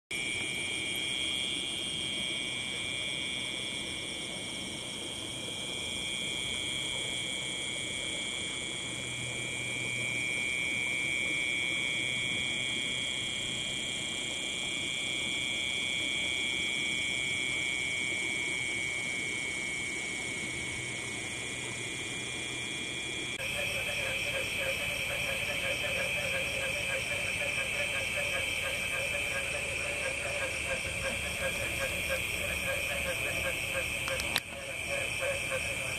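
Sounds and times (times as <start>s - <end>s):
faint low hum: 0.2s - 35.9s
night insects trilling: 0.2s - 35.9s.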